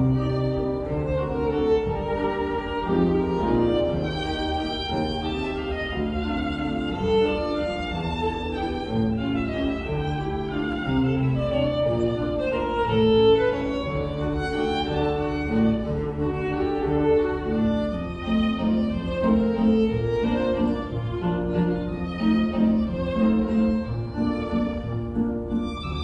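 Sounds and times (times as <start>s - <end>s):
string ensemble playing: 0.0s - 26.0s.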